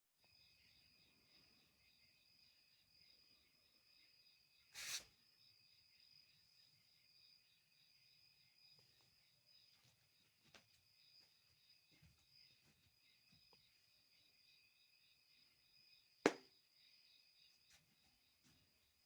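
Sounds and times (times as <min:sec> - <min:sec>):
night insects trilling: 0:00.3 - 0:18.4.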